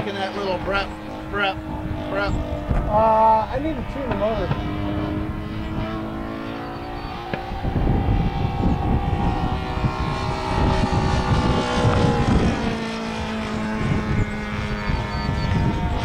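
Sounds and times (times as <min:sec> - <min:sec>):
model airplane engine in flight: 0:00.0 - 0:16.0.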